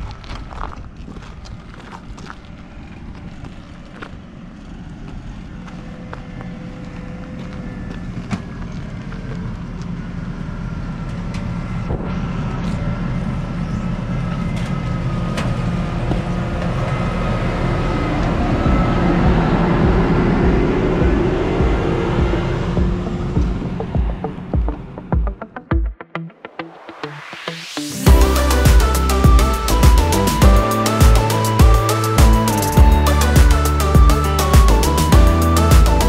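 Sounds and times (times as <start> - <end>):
combine harvester diesel engine: 0.0 - 25.1, 28.0 - 36.0
high whine: 2.2 - 36.0.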